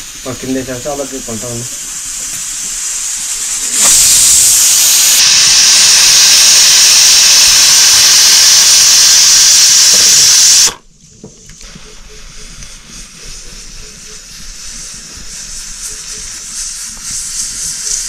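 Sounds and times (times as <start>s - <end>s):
loud steady hiss: 0.0s - 18.0s.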